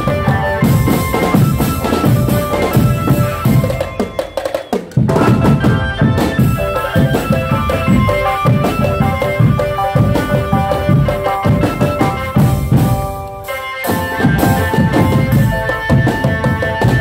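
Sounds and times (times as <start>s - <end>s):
heavy drums beating: 0.0s - 17.0s
melody of held notes: 0.0s - 17.0s.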